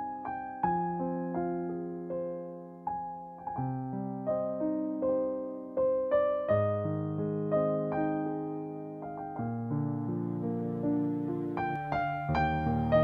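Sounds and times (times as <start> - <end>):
slow solo piano piece: 0.0 - 13.0.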